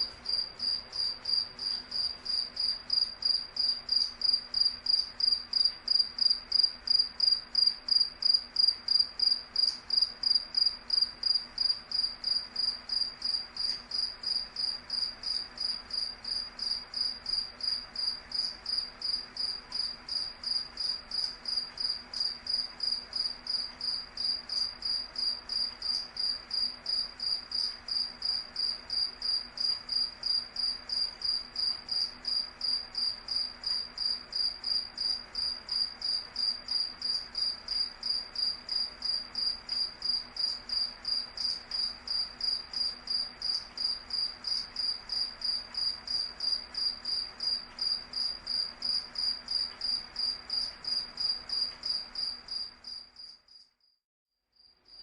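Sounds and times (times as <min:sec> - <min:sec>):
cricket chirping: 0:00.0 - 0:54.0, 0:54.6 - 0:55.0.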